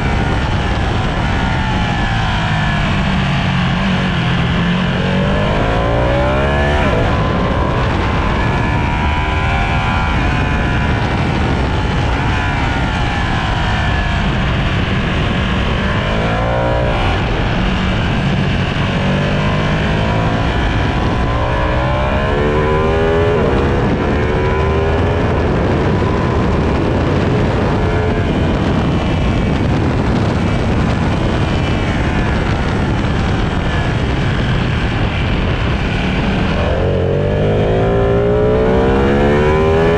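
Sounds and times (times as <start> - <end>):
constant rush of noise: 0.0 - 39.9
motorcycle engine racing: 0.0 - 39.9.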